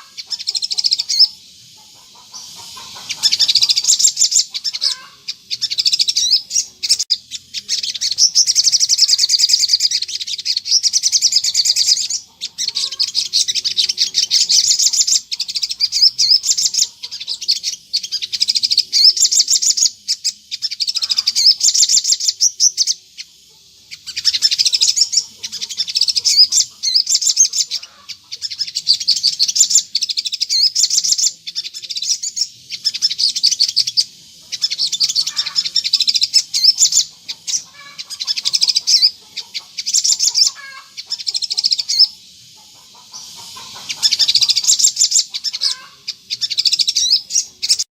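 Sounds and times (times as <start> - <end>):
sunbird twittering song: 0.0 - 47.9.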